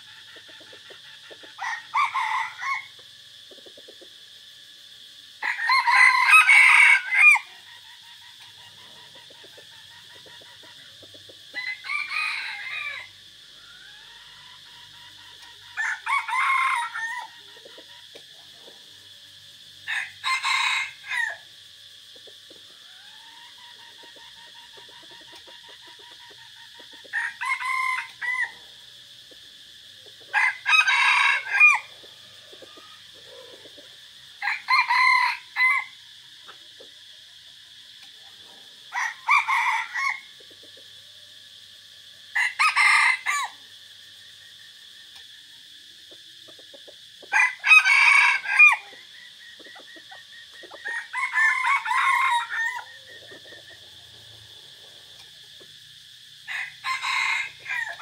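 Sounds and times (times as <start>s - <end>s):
roosters crowing: 0.0s - 58.0s.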